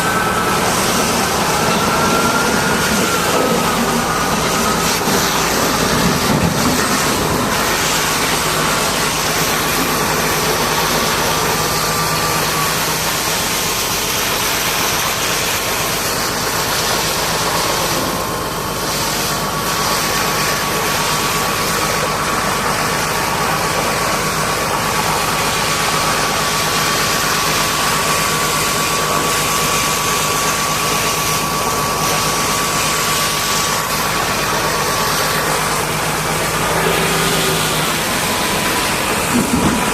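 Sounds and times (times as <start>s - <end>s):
engine with high whine: 0.0s - 39.9s.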